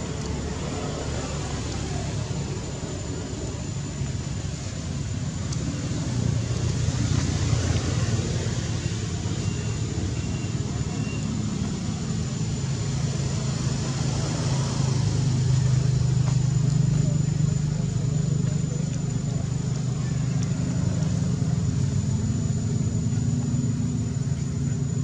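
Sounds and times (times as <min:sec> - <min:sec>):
faint high whine: 0:00.0 - 0:25.0
motor vehicle engine rumble: 0:00.0 - 0:25.0.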